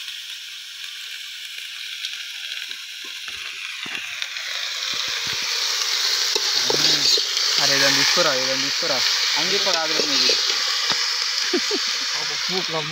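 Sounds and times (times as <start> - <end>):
chicken sizzling in hot oil: 0.0 - 12.9.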